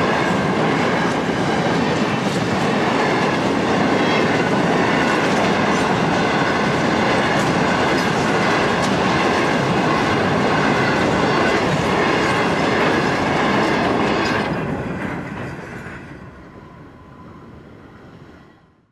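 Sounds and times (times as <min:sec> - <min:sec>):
train wheels rumbling on rail: 0:00.0 - 0:18.6.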